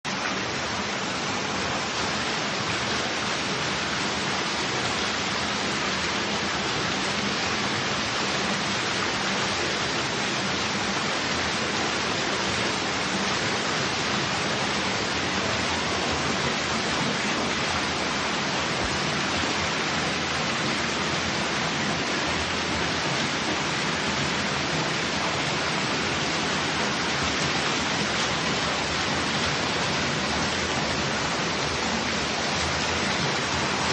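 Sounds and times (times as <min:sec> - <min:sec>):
fountain water splashing: 0:00.1 - 0:33.9.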